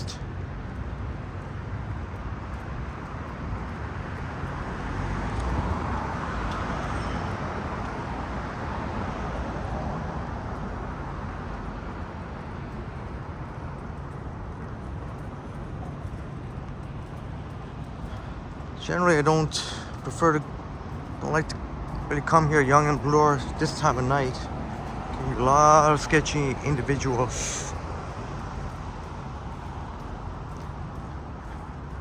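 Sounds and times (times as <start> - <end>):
city street traffic: 0.0 - 32.0
vehicle passing: 1.2 - 32.0.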